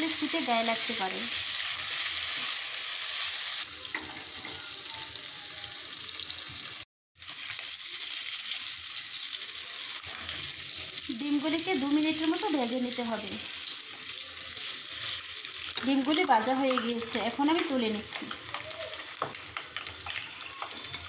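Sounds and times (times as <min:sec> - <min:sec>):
eggs sizzling in hot oil: 0:00.0 - 0:21.0.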